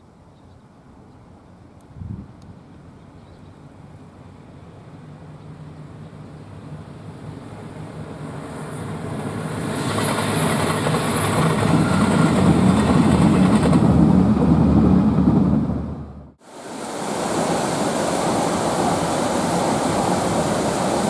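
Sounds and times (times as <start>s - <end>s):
diesel train passing: 3.7s - 21.0s.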